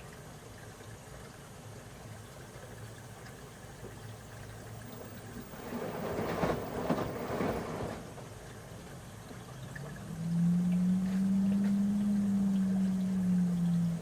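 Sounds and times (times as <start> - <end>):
washing machine humming: 1.0 - 14.0
water sloshing in drum: 2.0 - 14.0.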